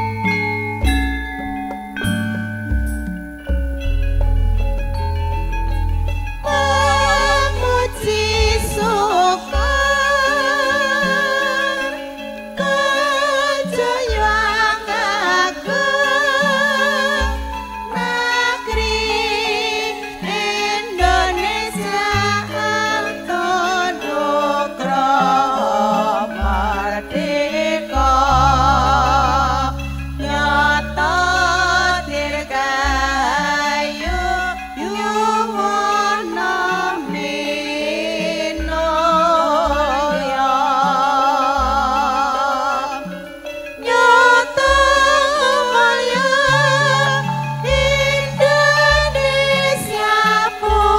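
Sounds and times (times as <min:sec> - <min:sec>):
band with sustained bass: 0:00.0 - 0:50.9
woman singing: 0:06.4 - 0:50.9.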